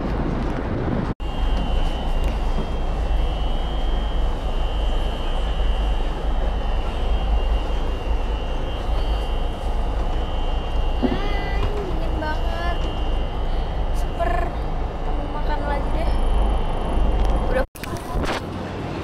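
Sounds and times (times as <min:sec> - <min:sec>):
ferry engines droning: 0:00.1 - 0:19.0
faint high-pitched whine: 0:01.2 - 0:17.6.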